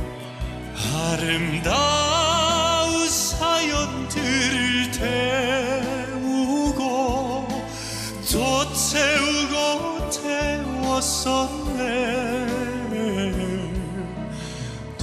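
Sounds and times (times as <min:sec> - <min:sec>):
instrumental accompaniment: 0:00.0 - 0:15.0
man singing a ballad: 0:00.0 - 0:15.0.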